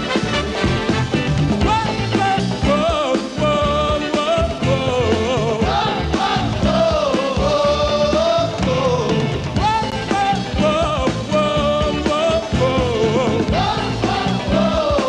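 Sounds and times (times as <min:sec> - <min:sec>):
rock band playing: 0:00.0 - 0:15.0
lead vocal: 0:01.6 - 0:15.0.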